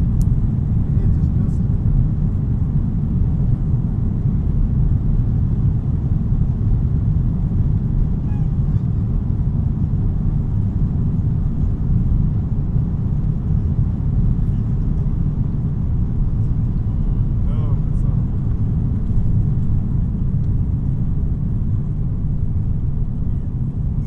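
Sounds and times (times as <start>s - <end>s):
aircraft rolling on runway: 0.0s - 24.0s
jet engines rumbling: 0.0s - 24.0s.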